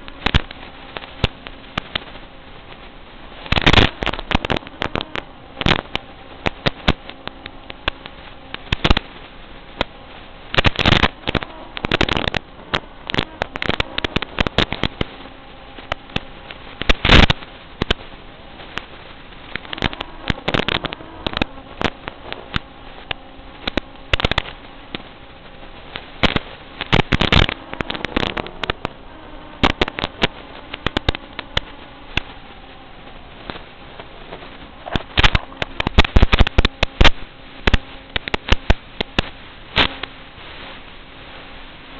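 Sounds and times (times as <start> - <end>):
crackling radio static: 0.0 - 41.9
faint steady hum: 0.0 - 41.9.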